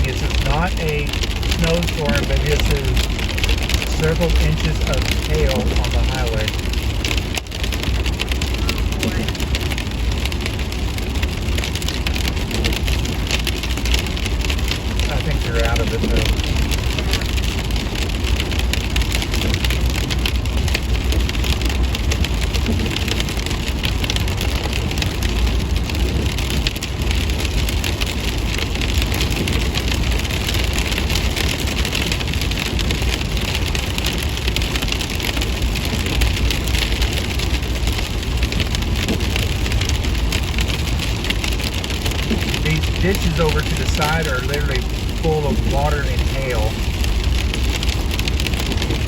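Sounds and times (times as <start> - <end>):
rain on a car: 0.0 - 49.0
tyres rumbling on wet road: 0.0 - 49.0.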